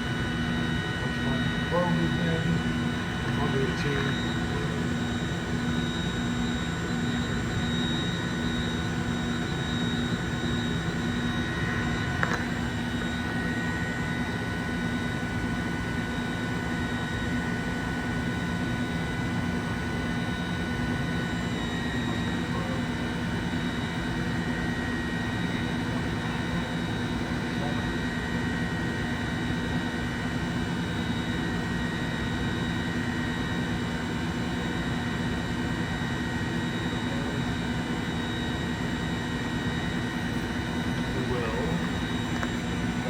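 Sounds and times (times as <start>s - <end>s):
low machine hum: 0.0s - 43.0s
machine spindle whine: 0.0s - 43.0s.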